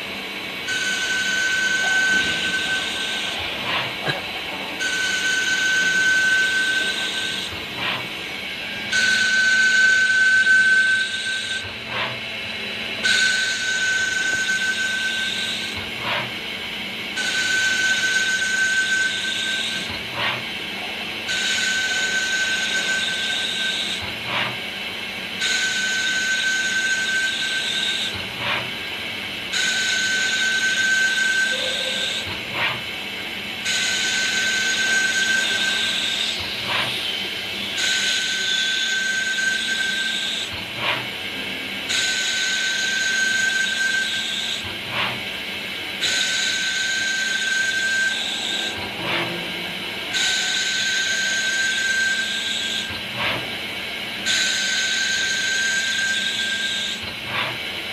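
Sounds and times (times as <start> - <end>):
machine cutting metal with whine: 0.0 - 57.9.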